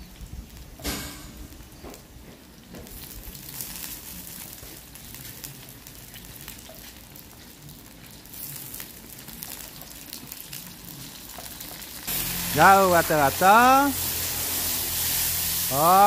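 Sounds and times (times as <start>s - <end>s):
meat frying in hot oil: 0.0s - 1.8s, 2.8s - 16.0s.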